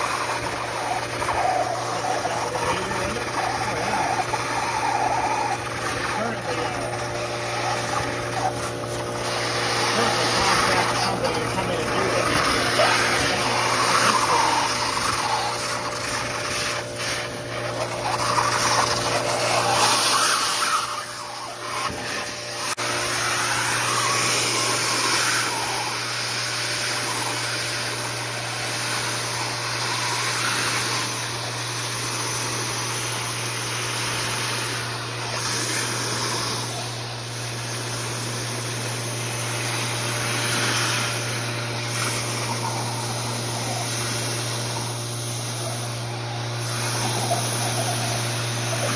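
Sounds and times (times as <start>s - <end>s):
low vacuum hum: 0.0s - 48.9s
vacuum suction air rush: 0.0s - 48.9s.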